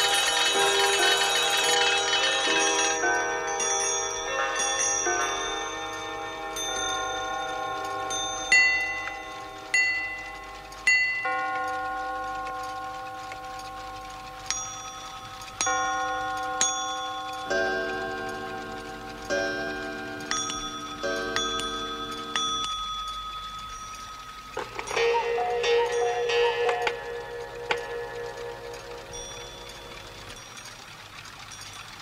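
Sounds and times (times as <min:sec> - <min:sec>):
alarm clock bell ringing: 0:00.0 - 0:30.7
loud clock strikes: 0:00.0 - 0:31.8
overlapping clock chimes: 0:00.0 - 0:32.0.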